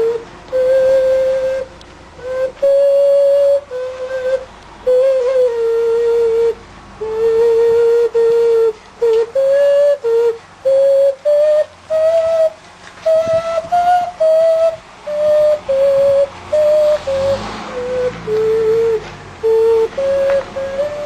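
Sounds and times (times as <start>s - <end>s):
clay flute melody: 0.0s - 21.0s.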